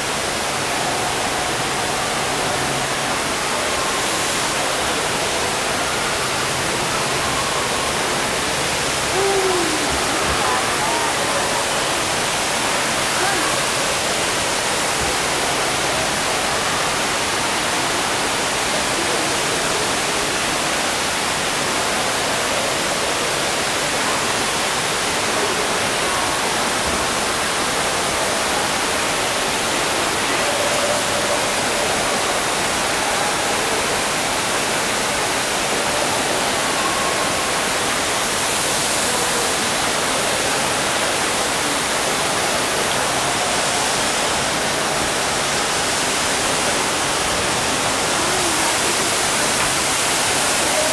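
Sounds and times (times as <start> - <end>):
indoor waterfall roaring: 0.0 - 50.9.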